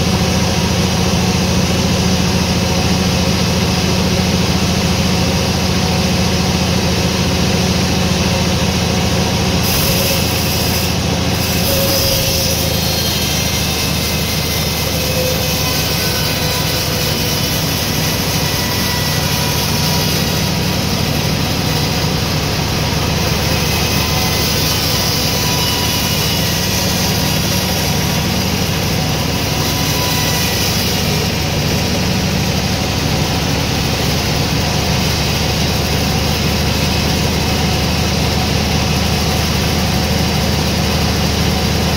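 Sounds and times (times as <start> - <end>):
sawmill machinery drone: 0.0 - 41.9.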